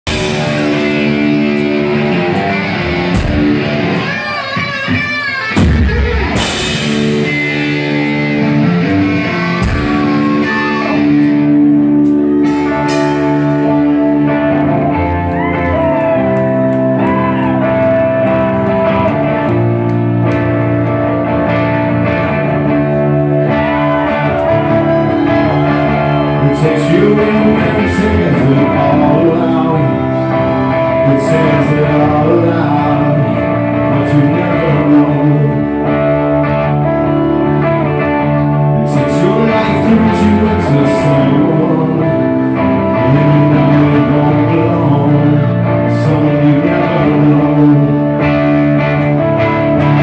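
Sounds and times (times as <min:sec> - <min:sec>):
hard rock electric guitars: 0:00.0 - 0:50.0
lead guitar bending notes: 0:00.0 - 0:50.0
person singing: 0:03.8 - 0:50.0.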